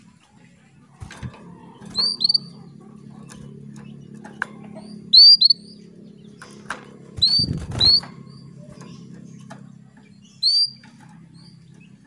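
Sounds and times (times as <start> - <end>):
low hum: 0.0 - 12.0
canary chirping: 1.6 - 12.0.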